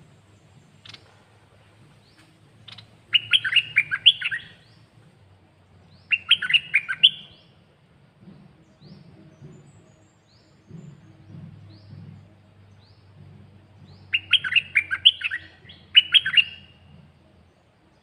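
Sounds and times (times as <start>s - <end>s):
bird singing warbling phrases: 0.0s - 5.0s, 5.9s - 7.6s, 8.7s - 16.9s.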